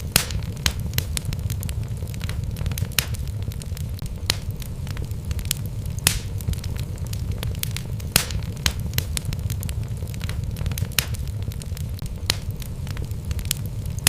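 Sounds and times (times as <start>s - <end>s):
loud fire pops: 0.0s - 14.0s
wood fire crackling: 0.0s - 14.0s.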